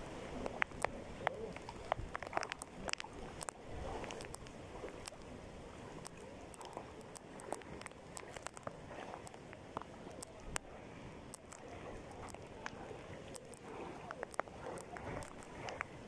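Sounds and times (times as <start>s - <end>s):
wading through water splashing: 0.0s - 16.0s
sharp ticks: 0.4s - 5.3s, 6.0s - 10.7s, 11.3s - 15.9s.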